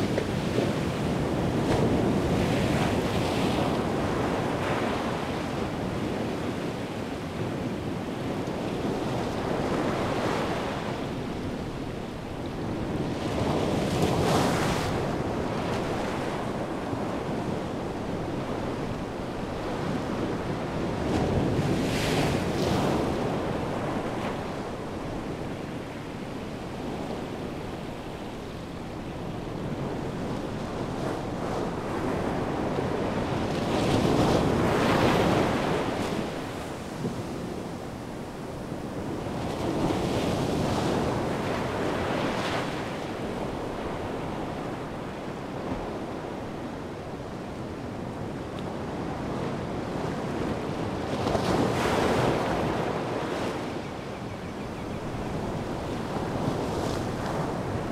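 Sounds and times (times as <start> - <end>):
wind: 0.0 - 57.9.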